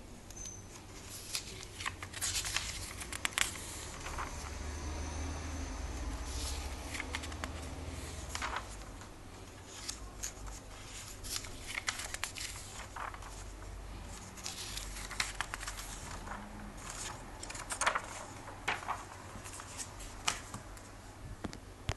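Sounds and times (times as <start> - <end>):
pages being turned: 0.8 - 4.7, 6.3 - 20.9.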